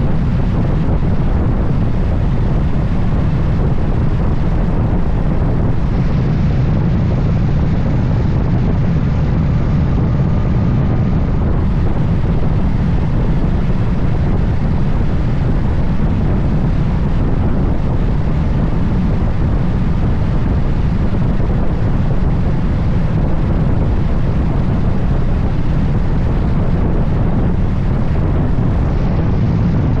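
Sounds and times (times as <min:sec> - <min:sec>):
motorcycle road and engine noise: 0:00.0 - 0:30.0
wind rush over microphone: 0:00.0 - 0:30.0.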